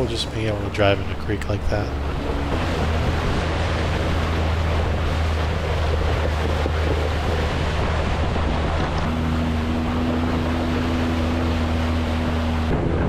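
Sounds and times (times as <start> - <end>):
water splashing around wheels: 0.0 - 13.0.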